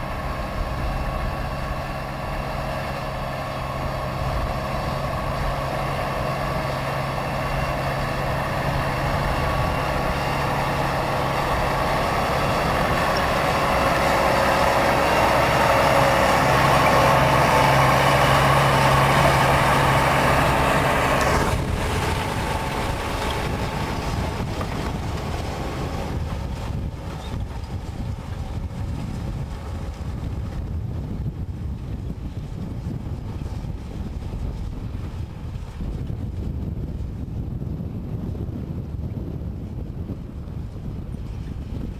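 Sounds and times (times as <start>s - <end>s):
tractor diesel engine: 0.0s - 38.5s.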